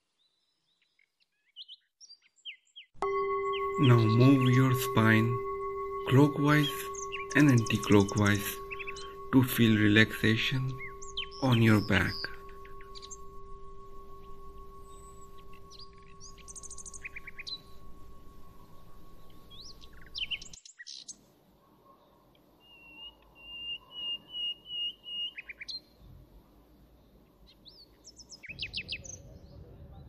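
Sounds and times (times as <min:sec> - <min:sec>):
small birds chirping: 0:00.0 - 0:21.3, 0:22.0 - 0:26.1, 0:26.8 - 0:29.6.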